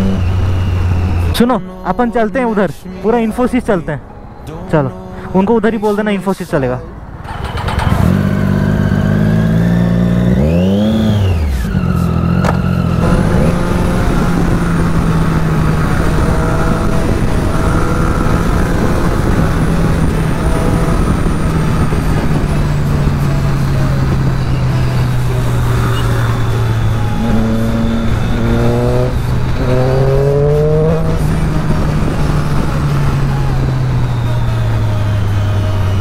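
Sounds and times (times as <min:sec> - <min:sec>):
motorcycle engine revving: 0:00.0 - 0:01.3, 0:07.2 - 0:36.0.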